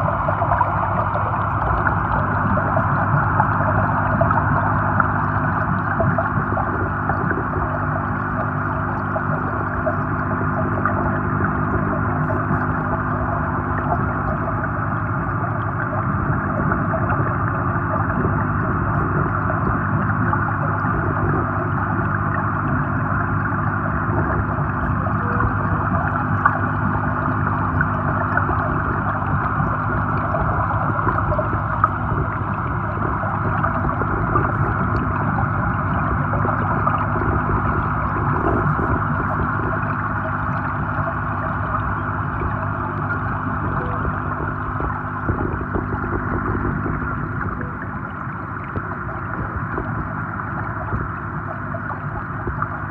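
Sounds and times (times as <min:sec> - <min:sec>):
low even hum: 0:00.0 - 0:52.9
muffled underwater rushing: 0:00.0 - 0:52.9.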